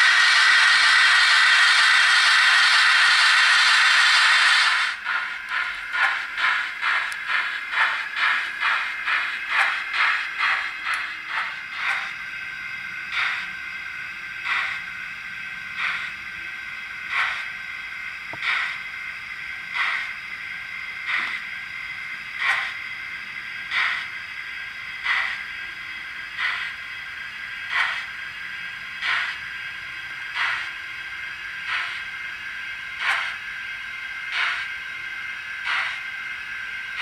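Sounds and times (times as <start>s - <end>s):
steam locomotive chuffs: 0.0s - 37.0s.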